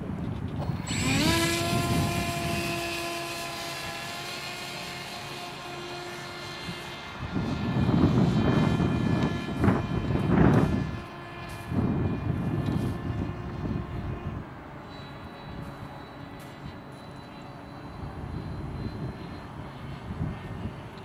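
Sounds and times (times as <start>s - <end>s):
wind buffeting microphone: 0.0s - 16.9s, 17.7s - 21.0s
model airplane motor whine: 0.0s - 21.0s.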